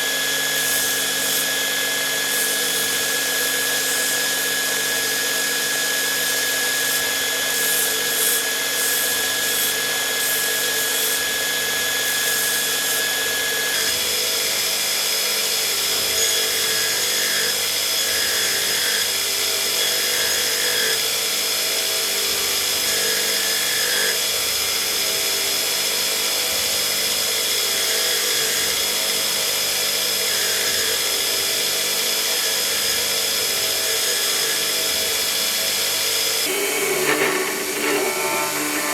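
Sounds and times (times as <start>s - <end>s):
electric power tool working metal: 0.0s - 38.9s.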